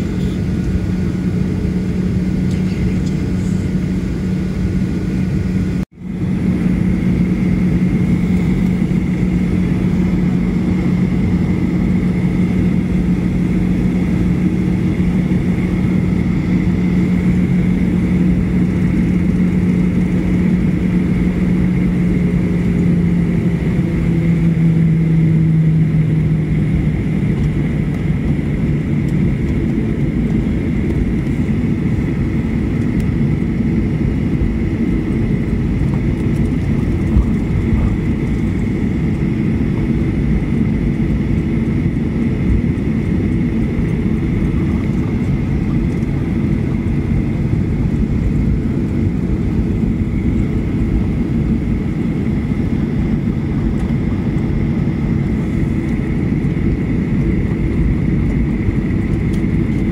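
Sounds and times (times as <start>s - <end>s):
jet engine rumble and whine: 0.0s - 59.9s
low hum: 0.0s - 59.9s.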